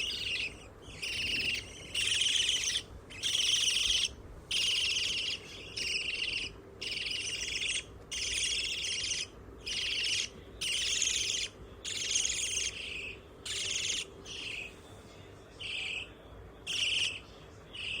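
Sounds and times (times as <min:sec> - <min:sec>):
budgerigars chirping: 0:00.0 - 0:14.8, 0:15.6 - 0:18.0.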